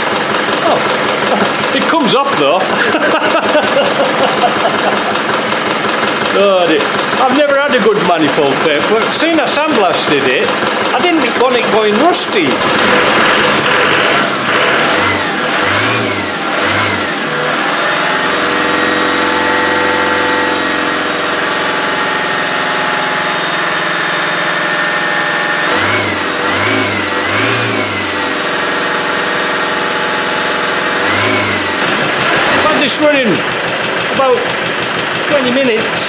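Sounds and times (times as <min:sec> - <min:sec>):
diesel engine idling and revving: 0:00.0 - 0:36.0.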